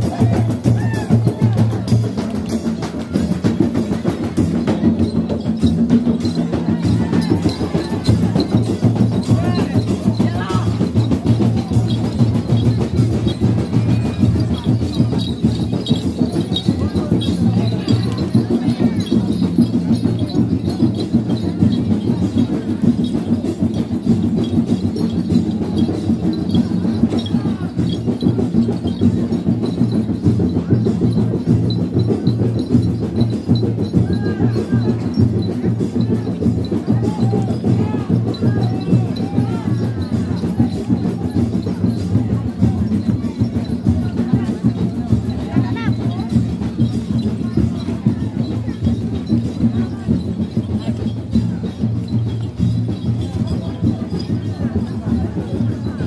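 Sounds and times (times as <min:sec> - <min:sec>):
crowd noise: 0:00.0 - 0:56.0
frame drums beating rhythm: 0:00.0 - 0:56.0
light jingling: 0:01.9 - 0:55.1.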